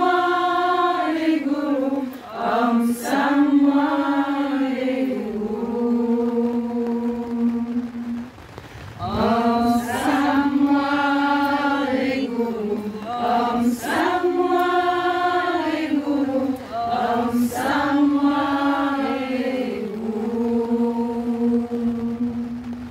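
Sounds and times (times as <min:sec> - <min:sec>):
women singing a slow chant: 0:00.0 - 0:22.9.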